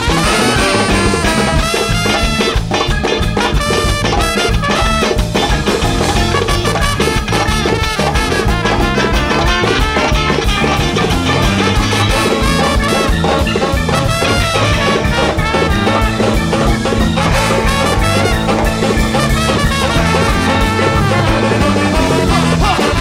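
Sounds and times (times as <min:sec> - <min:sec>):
big band jazz: 0:00.0 - 0:23.0
saxophones and trumpet: 0:00.0 - 0:23.0
steady drum beat: 0:00.0 - 0:23.0.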